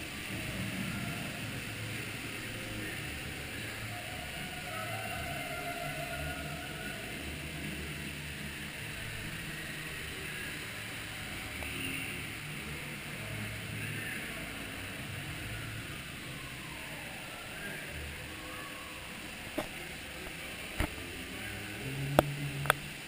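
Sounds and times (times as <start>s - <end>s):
boat ride rumble: 0.0s - 23.0s
rushing water hiss: 0.0s - 23.0s.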